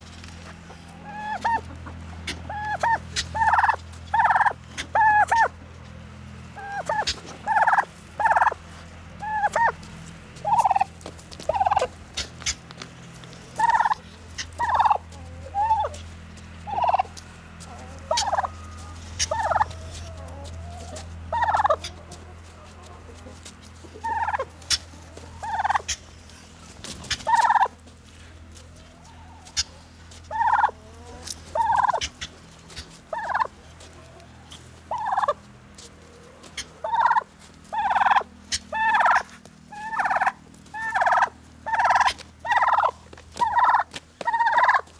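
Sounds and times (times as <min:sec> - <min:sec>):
steady low hum: 0:00.0 - 0:44.3
turkey gobbling: 0:00.0 - 0:44.9.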